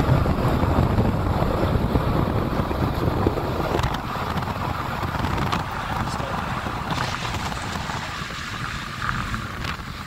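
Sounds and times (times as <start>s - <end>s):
vehicle low rumble: 0.0s - 10.0s
wind buffeting microphone: 0.0s - 10.0s.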